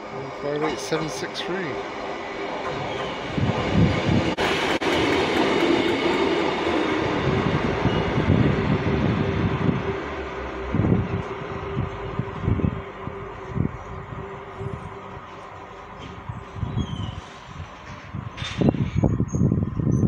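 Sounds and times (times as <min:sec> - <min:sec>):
diesel train engines: 0:00.0 - 0:20.0.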